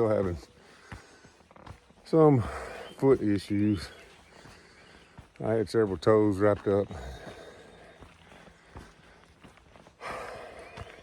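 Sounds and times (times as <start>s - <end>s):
faint scuffs and taps: 0.0s - 10.0s
outdoor background noise: 0.0s - 11.0s.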